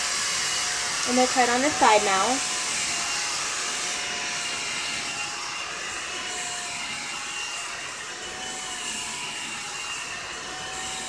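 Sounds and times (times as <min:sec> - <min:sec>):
hot-air brush running: 0:00.0 - 0:11.0.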